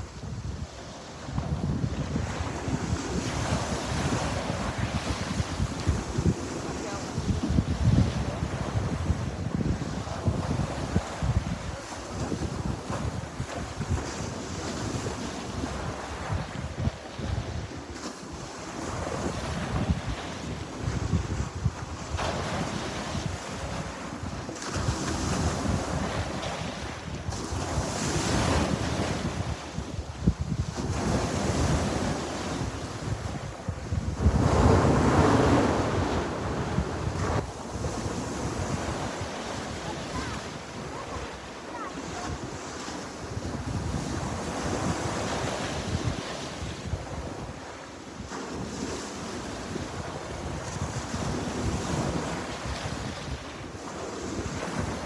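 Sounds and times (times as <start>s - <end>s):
sea waves breaking on shore: 0.0s - 55.0s
wind buffeting microphone: 0.0s - 55.0s.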